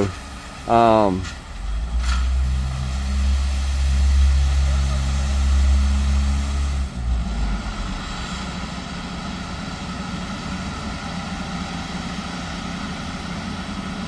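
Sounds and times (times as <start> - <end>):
heavy diesel equipment running: 0.0 - 14.0.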